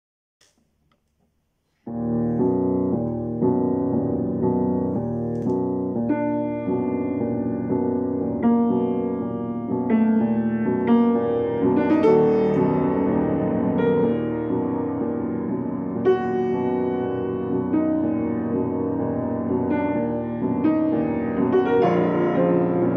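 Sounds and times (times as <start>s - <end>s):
piano chords: 1.9s - 22.9s.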